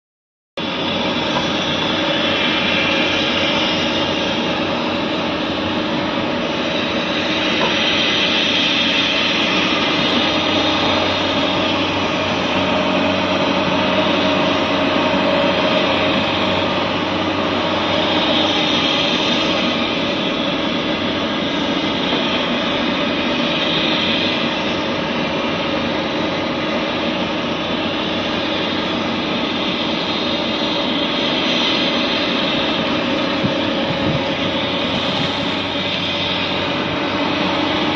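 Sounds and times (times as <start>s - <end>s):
excavator engine drone: 0.6s - 37.9s.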